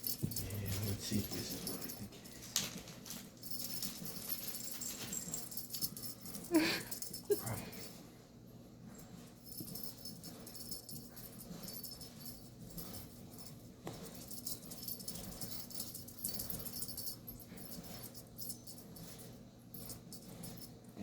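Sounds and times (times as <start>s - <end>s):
cat toy rattling and jingling: 0.0s - 8.1s, 8.9s - 21.0s
steady low hum: 0.0s - 21.0s.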